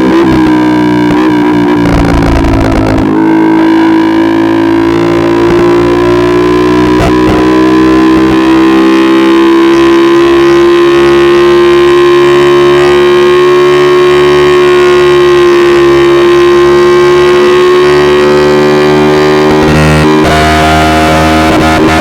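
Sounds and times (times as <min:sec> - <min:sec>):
vehicle engine revving high: 0:00.0 - 0:22.0.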